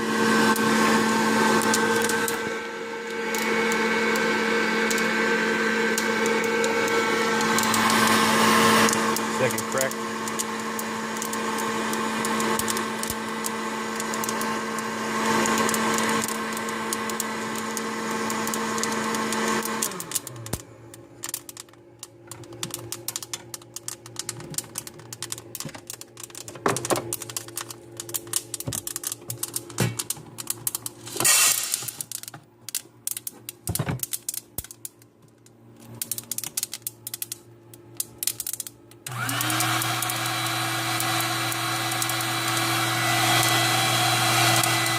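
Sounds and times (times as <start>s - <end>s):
coffee roaster fan motor humming: 0.0s - 44.9s.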